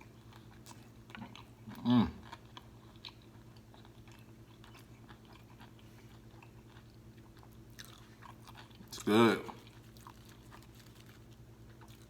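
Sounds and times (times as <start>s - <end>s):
chewing crunchy food: 0.0s - 12.0s
steady low hum: 0.0s - 12.0s.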